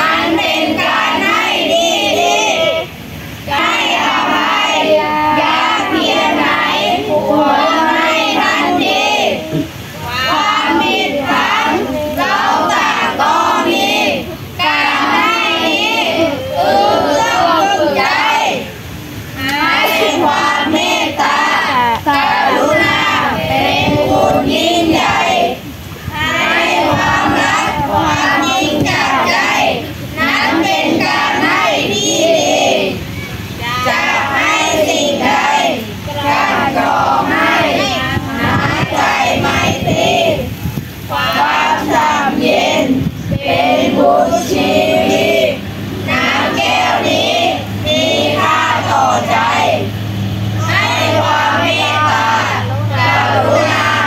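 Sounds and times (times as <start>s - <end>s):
children singing together: 0.0s - 54.0s
steady low hum: 0.0s - 54.0s.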